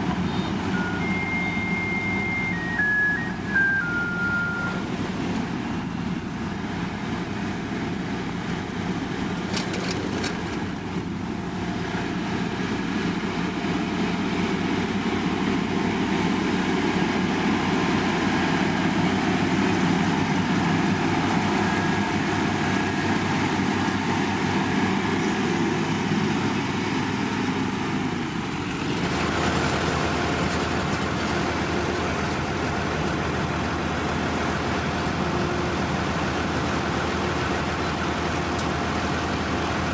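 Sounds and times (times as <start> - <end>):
different engine sound: 0.0 - 39.9
heavy machinery engines running: 0.0 - 39.9.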